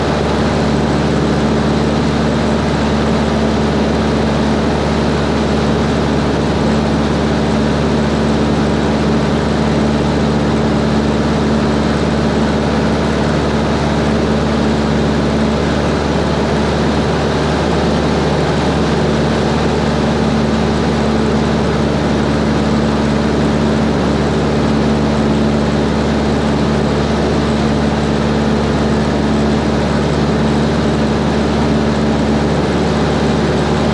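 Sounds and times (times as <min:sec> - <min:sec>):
light airplane engine and propeller: 0:00.0 - 0:33.9.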